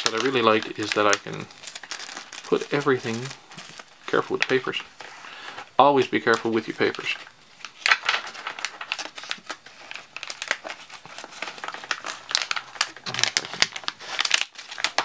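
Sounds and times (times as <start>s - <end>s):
plastic pouch crinkling: 0.0s - 15.0s.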